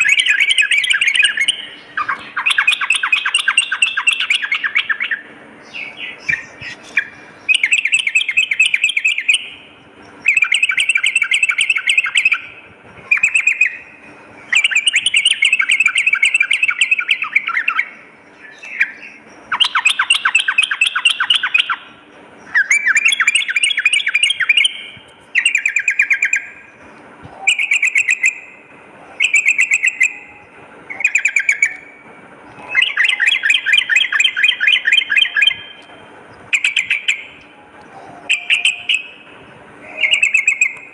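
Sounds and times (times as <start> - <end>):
bird singing chattering phrases: 0.0 - 40.9.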